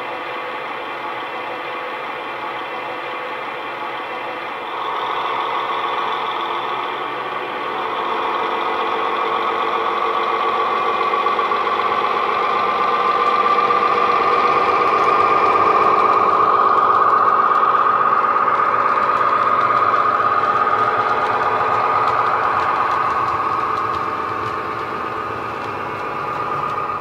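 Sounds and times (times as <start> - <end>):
diesel engine sound through small speaker: 0.0 - 27.0.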